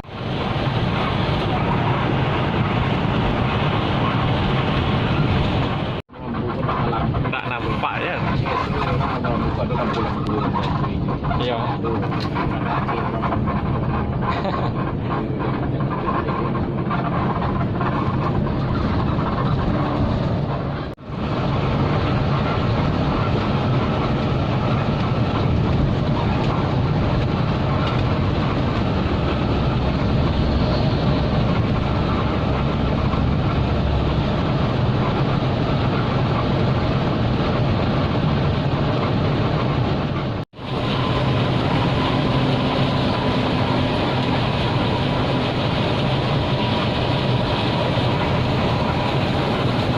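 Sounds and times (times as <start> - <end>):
bus engine and road noise: 0.0 - 49.9.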